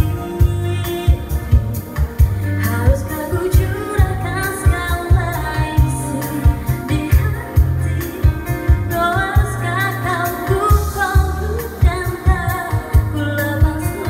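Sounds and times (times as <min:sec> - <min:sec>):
keyboard playing chords: 0:00.0 - 0:14.0
programmed drum beat: 0:00.0 - 0:14.0
woman singing pop song: 0:00.0 - 0:14.0.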